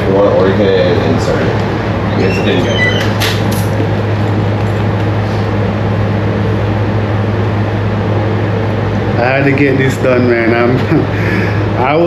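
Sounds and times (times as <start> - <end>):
mechanical drone with low hum: 0.0 - 12.0.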